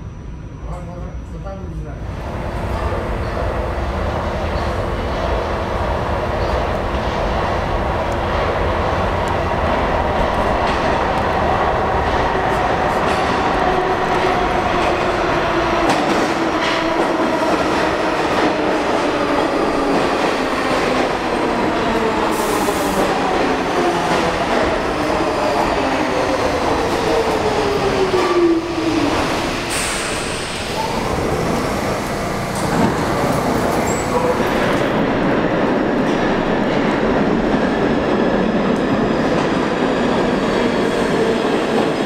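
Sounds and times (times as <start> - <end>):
train wheels on rails: 2.2 - 42.0.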